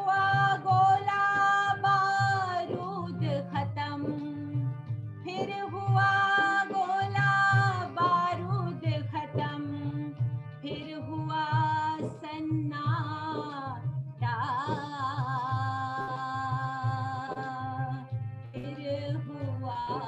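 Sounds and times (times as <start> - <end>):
low pulsing musical accompaniment: 0.0 - 17.2.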